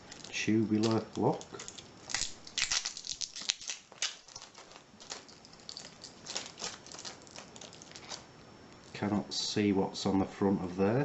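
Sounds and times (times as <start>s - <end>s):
packaging crinkling: 0.0s - 9.0s.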